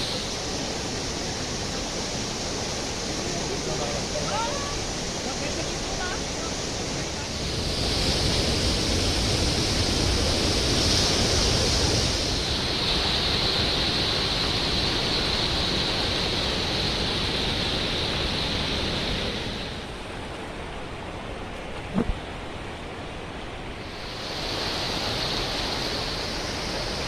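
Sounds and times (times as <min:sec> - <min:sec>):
fast-flowing water rushing: 0:00.0 - 0:27.0.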